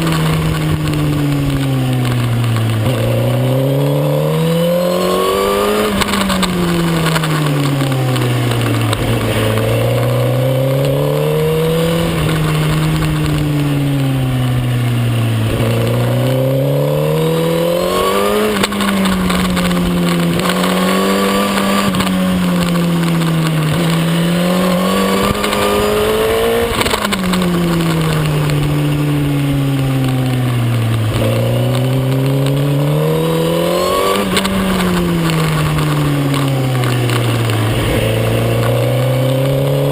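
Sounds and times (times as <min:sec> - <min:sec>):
motorcycle engine revving at speed: 0:00.0 - 0:39.9.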